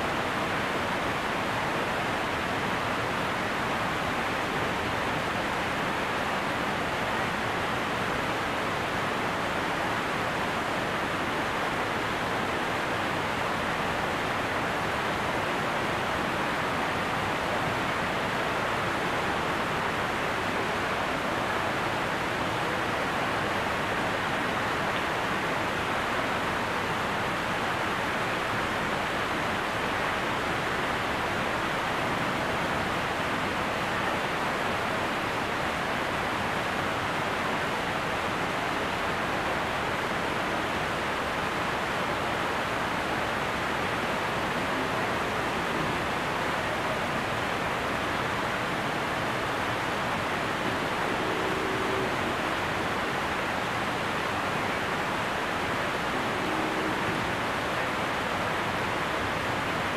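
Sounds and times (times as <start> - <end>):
falling water roar: 0.0 - 59.9.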